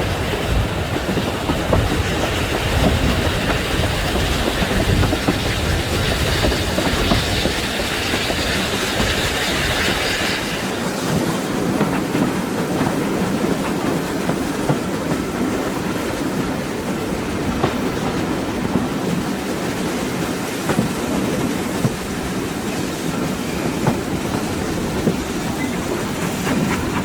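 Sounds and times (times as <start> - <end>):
train carriage rumbling on track: 0.0 - 27.0
wheels clicking over rail joints: 0.0 - 27.0.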